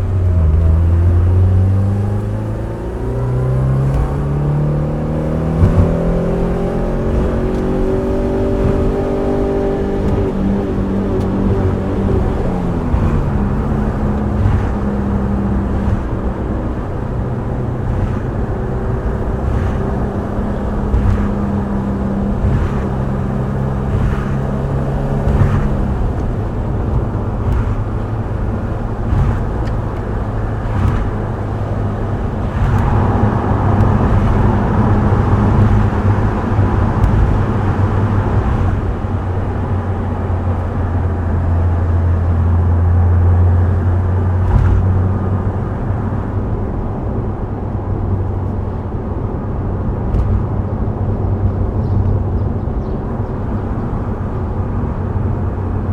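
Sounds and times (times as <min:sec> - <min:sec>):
car engine droning: 0:00.0 - 0:55.9
tyre and road noise: 0:00.0 - 0:55.9.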